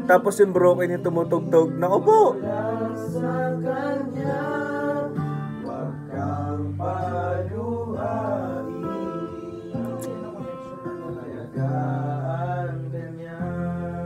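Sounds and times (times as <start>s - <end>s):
acoustic guitar: 0.0s - 14.0s
person singing: 0.0s - 14.0s.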